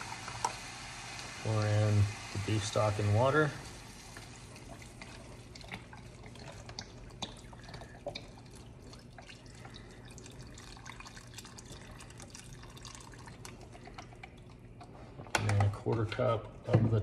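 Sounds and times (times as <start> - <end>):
liquid pouring into saucepan: 0.0 - 14.8.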